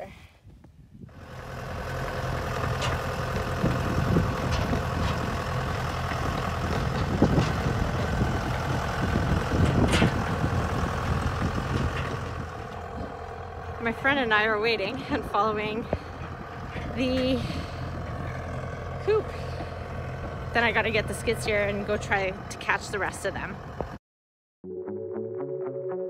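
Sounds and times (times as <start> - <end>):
diesel tractor engine running: 1.0 - 24.0.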